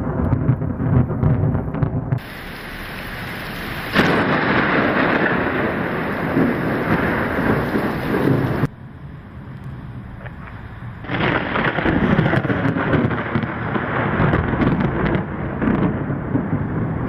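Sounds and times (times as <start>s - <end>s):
thunder rumbling: 0.0s - 17.0s
rain rushing: 2.2s - 17.0s.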